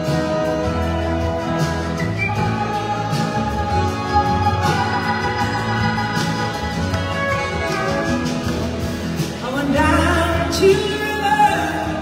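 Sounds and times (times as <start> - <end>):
blues-rock band playing: 0.0 - 12.0
electric guitar: 0.0 - 12.0.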